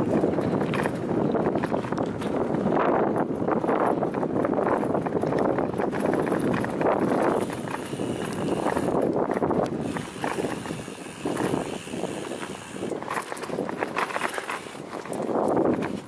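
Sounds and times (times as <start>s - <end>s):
bicycle tyres crunching gravel: 0.0s - 16.0s.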